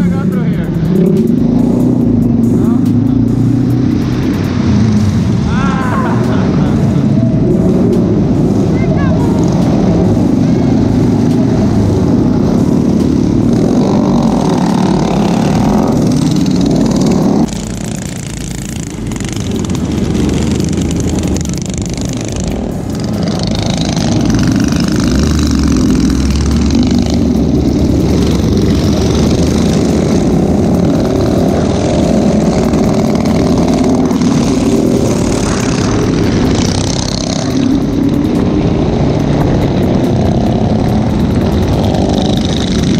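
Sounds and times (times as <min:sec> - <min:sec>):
motorbike engines running: 0:00.0 - 0:42.9.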